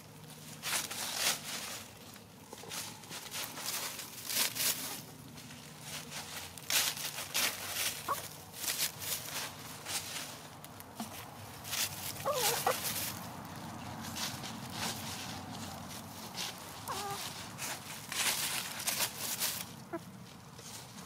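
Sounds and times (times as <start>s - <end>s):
dry leaves crackling and rustling: 0.0s - 21.0s.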